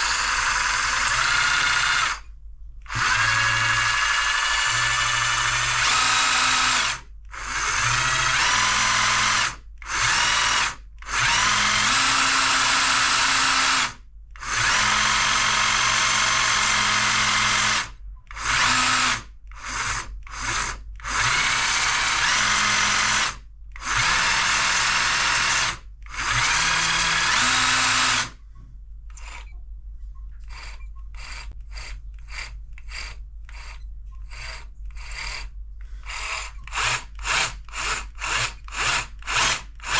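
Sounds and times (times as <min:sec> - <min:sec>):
jigsaw motor spinning up: 0:00.0 - 0:02.2, 0:02.9 - 0:28.4, 0:29.1 - 0:29.5, 0:30.5 - 0:39.9.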